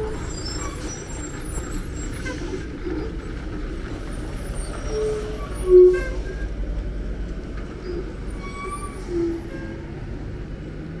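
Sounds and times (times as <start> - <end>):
lorry engine low rumble: 0.0 - 11.0.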